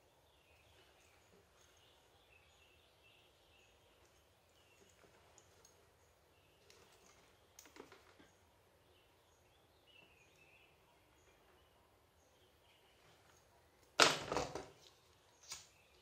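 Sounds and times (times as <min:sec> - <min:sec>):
faint bird chirps: 0:00.0 - 0:13.6.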